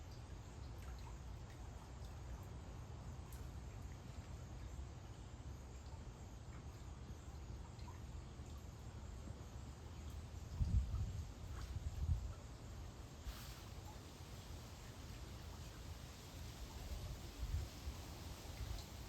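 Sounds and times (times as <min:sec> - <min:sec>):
faint ticks and chirps: 0:00.0 - 0:19.0.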